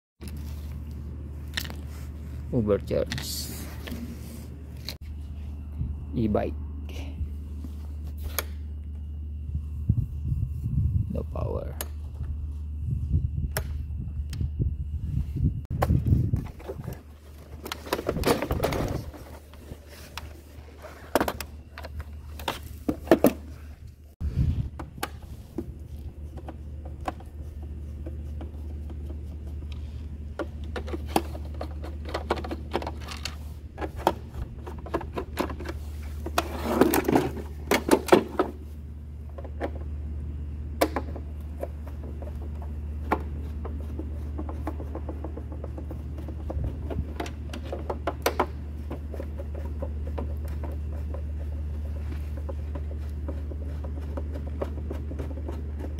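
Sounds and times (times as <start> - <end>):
steady low hum: 0.2 - 55.9.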